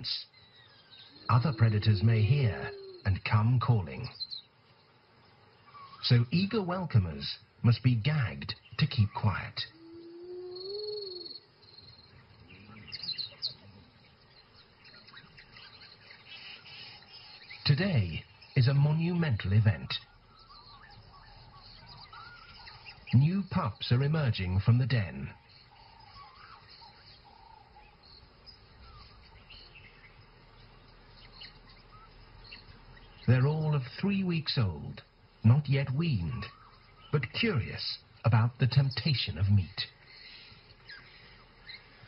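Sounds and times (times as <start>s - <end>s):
wild dogs chirping and twittering: 0.0s - 42.0s.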